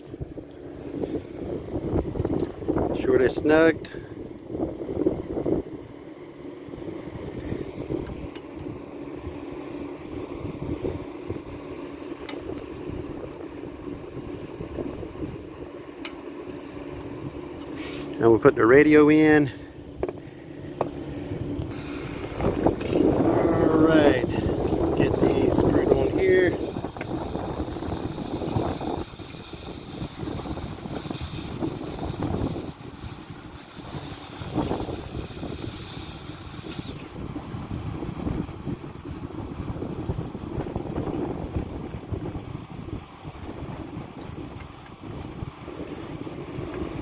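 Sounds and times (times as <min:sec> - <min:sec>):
wind buffeting microphone: 0:00.0 - 0:15.8, 0:16.6 - 0:47.0.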